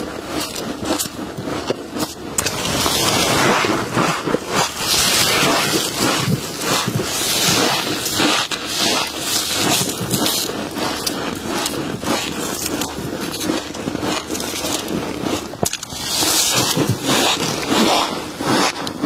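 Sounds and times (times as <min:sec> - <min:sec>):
frost crunching and scraping: 0:00.0 - 0:19.0.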